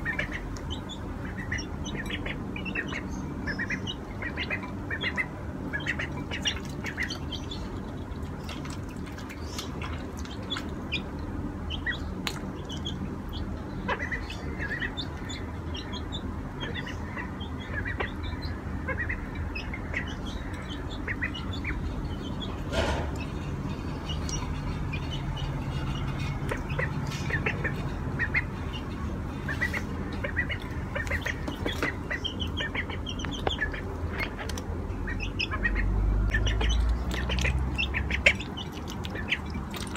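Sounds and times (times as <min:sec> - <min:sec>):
ducklings and chick peeping: 0:00.0 - 0:39.9.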